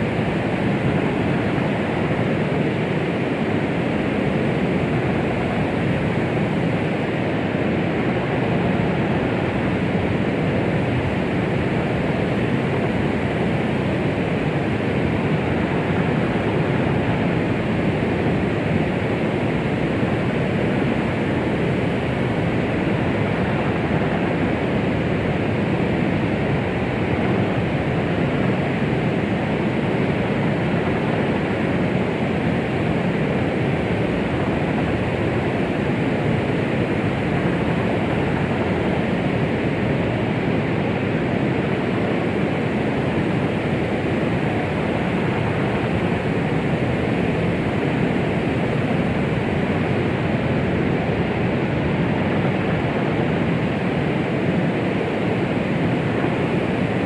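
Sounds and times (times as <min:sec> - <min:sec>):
white noise rushing hiss: 0:00.0 - 0:57.0.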